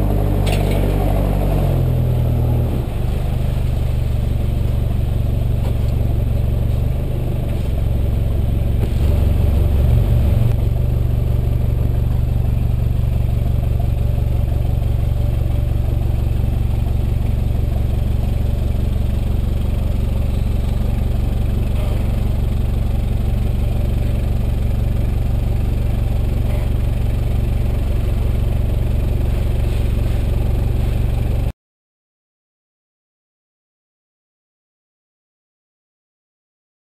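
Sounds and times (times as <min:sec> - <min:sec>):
diesel exhaust deep drone: 0:00.0 - 0:31.5.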